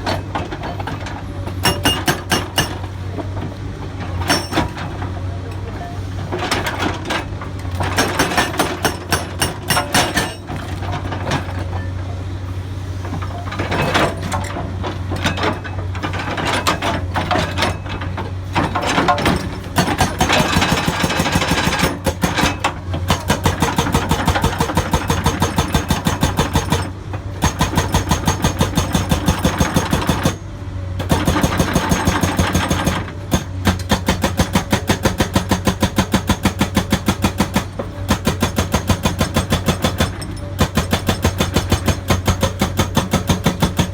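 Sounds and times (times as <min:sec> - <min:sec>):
hydraulic breaker hammer pounding rock: 0:00.0 - 0:02.9, 0:04.2 - 0:04.8, 0:07.7 - 0:11.6, 0:15.2 - 0:30.4, 0:31.0 - 0:43.9.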